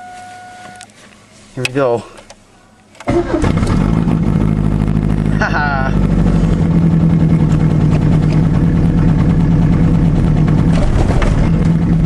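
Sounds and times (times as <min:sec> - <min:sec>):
car engine idling: 0:01.8 - 0:12.0.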